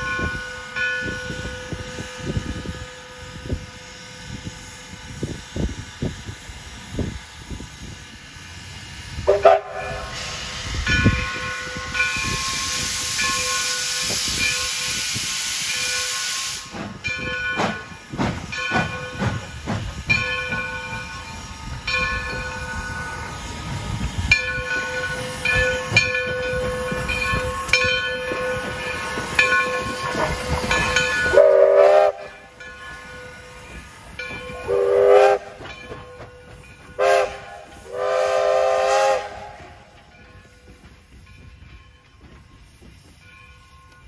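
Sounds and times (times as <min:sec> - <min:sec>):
locomotive bell ringing: 0:00.0 - 0:04.7, 0:09.3 - 0:15.0, 0:15.6 - 0:38.1, 0:39.2 - 0:44.0
steam exhaust hissing: 0:00.0 - 0:44.0.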